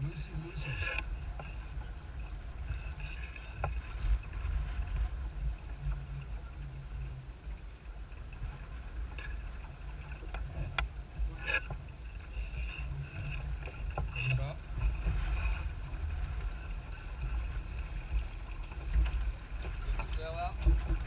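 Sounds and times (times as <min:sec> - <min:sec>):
water and wind rumble: 0:00.0 - 0:21.0.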